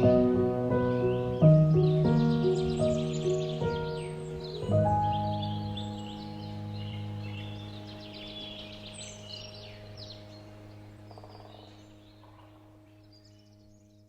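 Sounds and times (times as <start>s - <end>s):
ambient music drone: 0.0s - 14.0s
small birds chirping: 0.0s - 14.0s.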